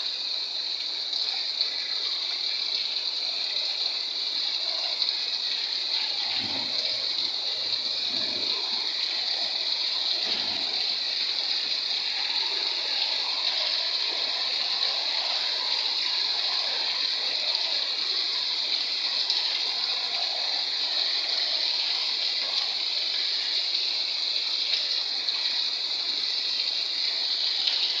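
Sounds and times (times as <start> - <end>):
rain falling steadily: 0.0 - 28.0.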